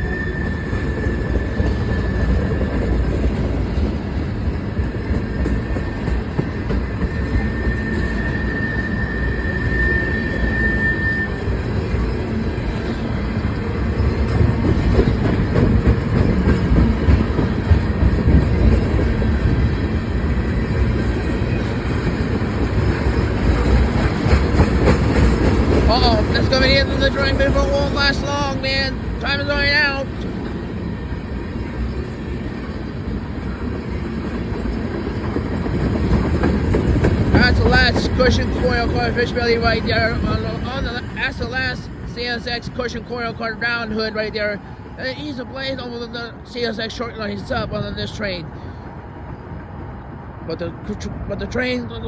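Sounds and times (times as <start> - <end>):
high wheel squeal: 0.0 - 3.8, 4.9 - 35.3, 36.1 - 45.8
freight train rumbling: 0.0 - 52.0.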